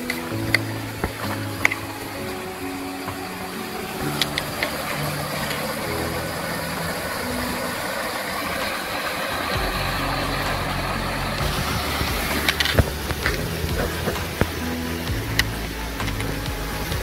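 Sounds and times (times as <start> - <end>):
low background music: 0.0 - 17.0
stream splashing over rocks: 0.0 - 17.0.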